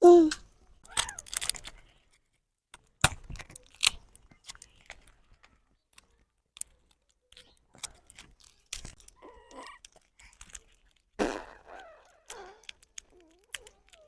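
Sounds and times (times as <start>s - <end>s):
clicks and crunches: 0.3s - 14.0s.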